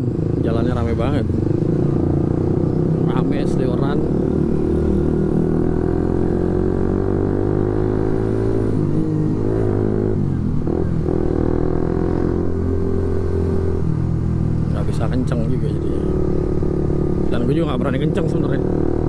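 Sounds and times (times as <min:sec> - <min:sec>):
motorcycle engine running loud: 0:00.0 - 0:19.0.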